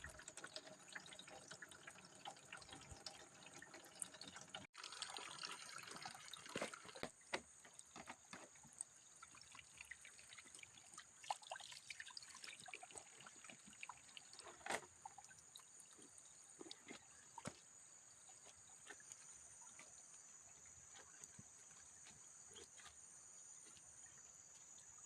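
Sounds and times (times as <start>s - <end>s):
water trickling and splashing: 0.0s - 25.0s.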